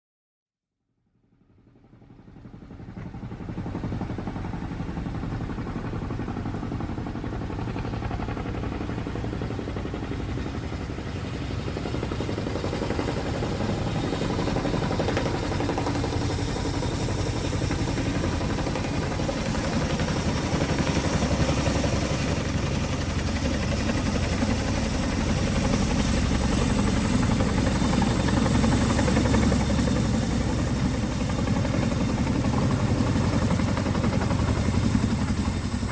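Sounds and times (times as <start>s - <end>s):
helicopter rotor chop: 2.5s - 35.9s.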